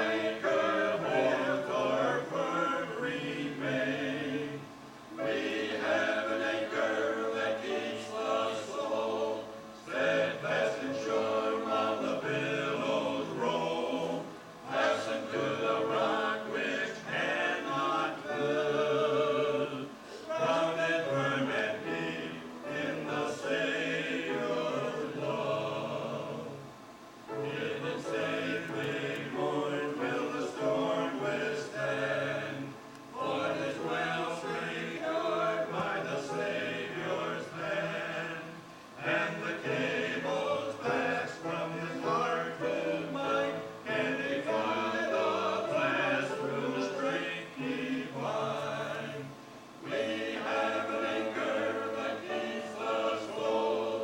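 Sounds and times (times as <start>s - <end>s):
choir singing gospel: 0.0s - 54.0s.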